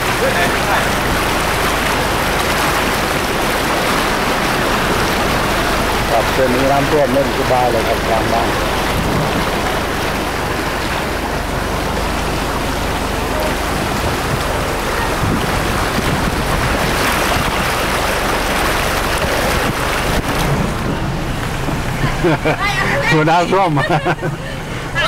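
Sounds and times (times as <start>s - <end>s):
low engine hum: 0.0s - 25.0s
water rushing: 0.0s - 25.0s.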